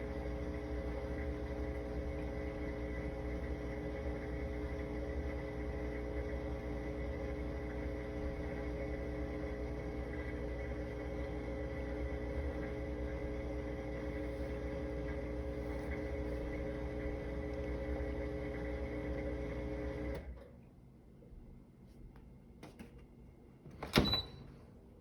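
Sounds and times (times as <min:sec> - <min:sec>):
dishwasher humming: 0:00.0 - 0:20.3.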